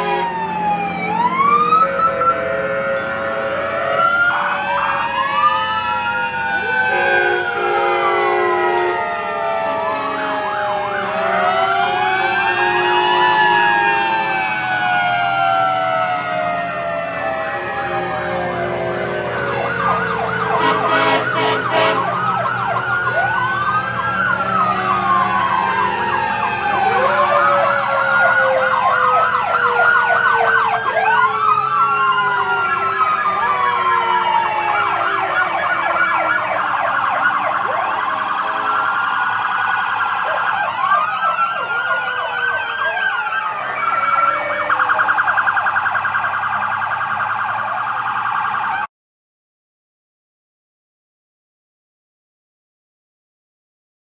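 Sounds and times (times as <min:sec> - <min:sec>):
truck engines rumbling: 0:00.0 - 0:48.8
emergency sirens wailing: 0:00.0 - 0:48.9.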